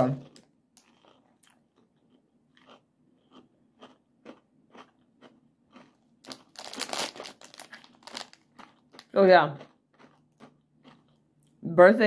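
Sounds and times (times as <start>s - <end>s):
faint candy crunching: 0.0s - 11.6s.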